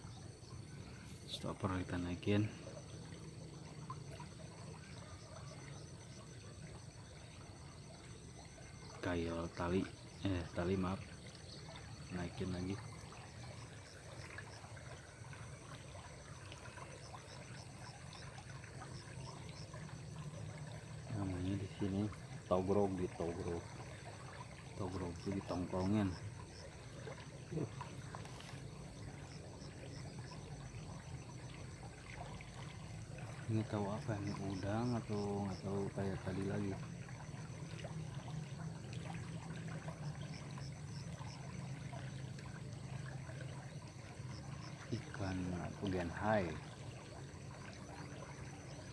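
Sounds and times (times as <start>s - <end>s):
faint high-pitched pulsing: 0.0s - 48.9s
water trickling in stream: 0.0s - 48.9s.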